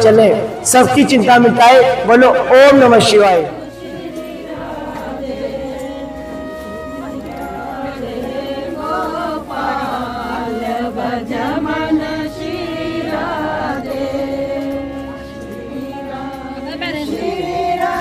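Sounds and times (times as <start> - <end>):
steady drone tone: 0.0 - 18.0
group singing a chant: 1.8 - 18.0.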